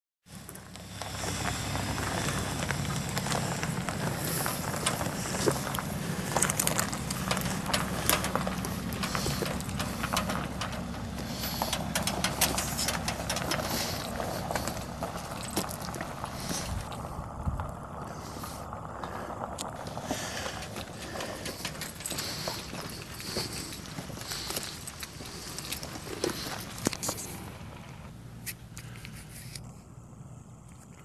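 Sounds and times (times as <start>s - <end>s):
truck engine running: 0.3s - 30.6s
gravel crunching: 0.3s - 31.0s.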